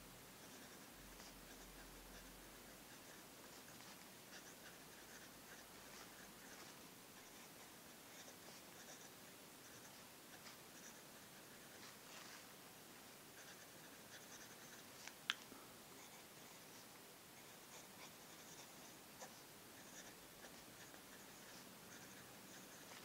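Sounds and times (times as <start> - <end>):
pen nib scratching on paper: 0.4 - 12.4, 13.4 - 14.9, 16.0 - 23.0.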